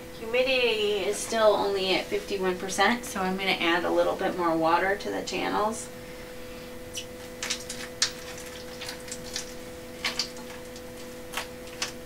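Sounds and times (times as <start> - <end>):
incubator fan motor hum: 0.0 - 12.0.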